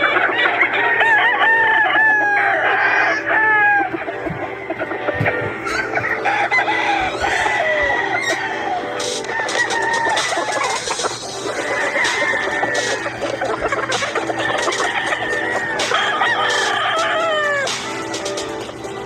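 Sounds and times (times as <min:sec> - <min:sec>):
chickens clucking: 0:00.0 - 0:19.0
roosters crowing: 0:00.0 - 0:19.0.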